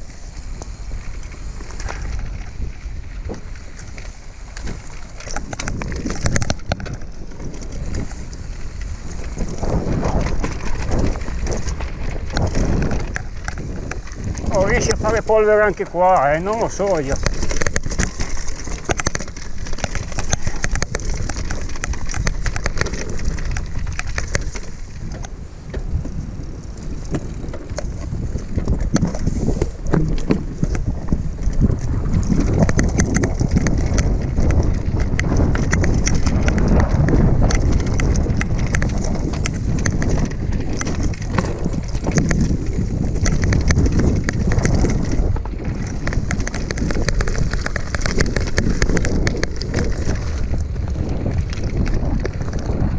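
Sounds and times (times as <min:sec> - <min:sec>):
bike tyres rumbling over stones: 0:00.0 - 0:52.9
wind buffeting microphone: 0:00.0 - 0:52.9
clatter of knocks from bike: 0:00.2 - 0:15.8, 0:16.8 - 0:26.2, 0:26.9 - 0:52.9.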